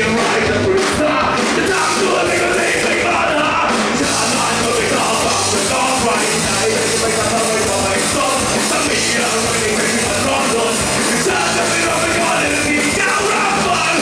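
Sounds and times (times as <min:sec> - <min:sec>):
bass: 0:00.0 - 0:14.0
distorted electric guitar: 0:00.0 - 0:14.0
drums: 0:00.0 - 0:14.0
person singing: 0:00.0 - 0:14.0.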